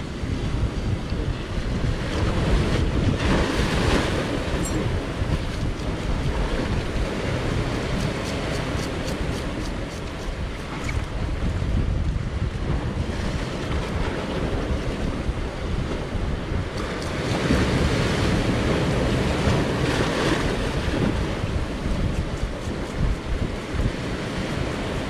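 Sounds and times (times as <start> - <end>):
sea waves breaking on rocks: 0.0 - 25.0
wind buffeting microphone: 0.0 - 25.0.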